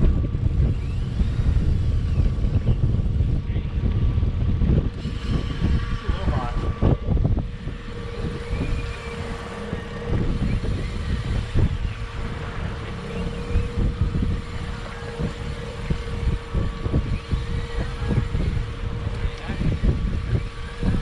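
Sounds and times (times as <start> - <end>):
outboard motor running: 0.0 - 21.0
wind gusting on microphone: 0.0 - 21.0.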